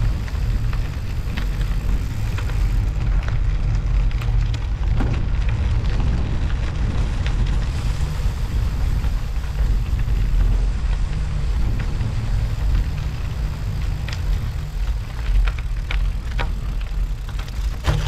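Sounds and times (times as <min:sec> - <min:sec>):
studded tyres crackling on snow: 0:00.0 - 0:18.0
wind rumbling on microphone: 0:00.0 - 0:18.0.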